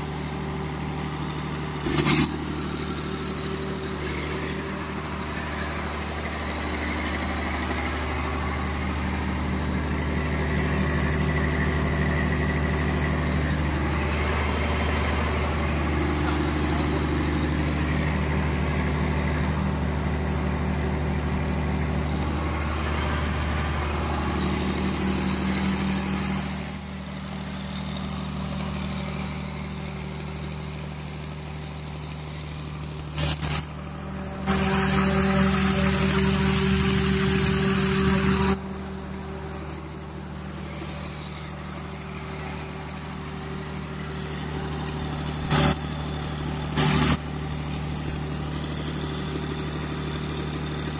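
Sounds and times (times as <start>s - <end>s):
diesel generator running: 0.0s - 50.9s.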